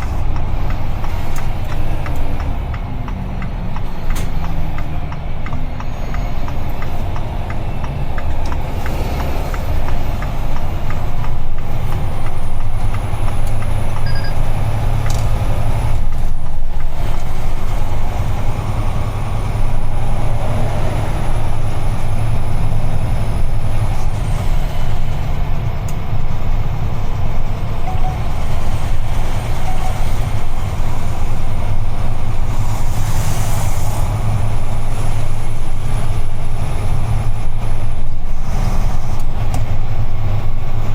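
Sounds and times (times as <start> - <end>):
road noise: 0.0 - 40.9
truck diesel engine drone: 0.0 - 40.9.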